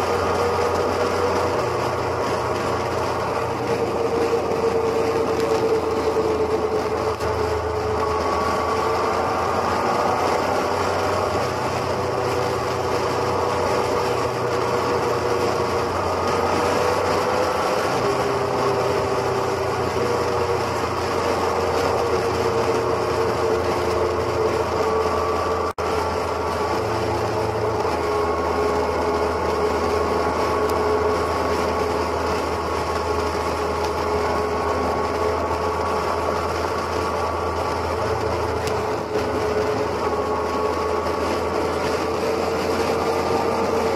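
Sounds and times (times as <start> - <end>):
motorcycle engine cruising: 0.0 - 43.9
wind and road noise: 0.0 - 43.9.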